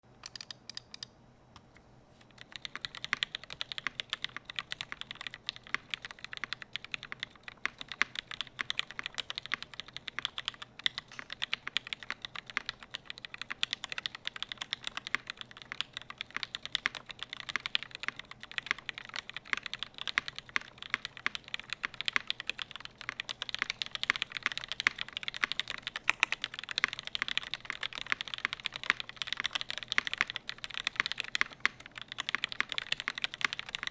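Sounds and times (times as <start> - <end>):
fast typing on keyboard: 0.2 - 1.1, 2.3 - 33.9.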